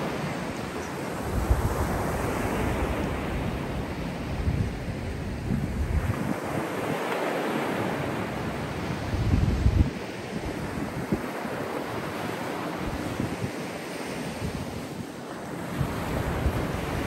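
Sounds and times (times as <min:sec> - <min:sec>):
wind buffeting microphone: 0:00.0 - 0:07.2, 0:08.0 - 0:12.1, 0:12.7 - 0:15.0, 0:15.6 - 0:17.0
waves breaking on beach: 0:00.0 - 0:17.0.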